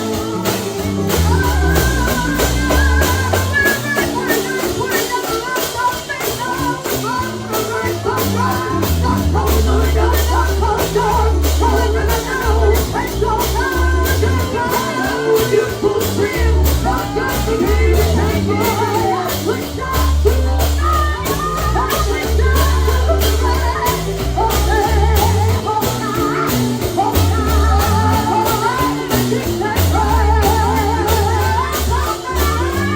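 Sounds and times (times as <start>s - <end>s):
bass notes: 0.0s - 32.9s
gospel singing voices: 0.0s - 32.9s
percussion beat: 0.0s - 32.9s.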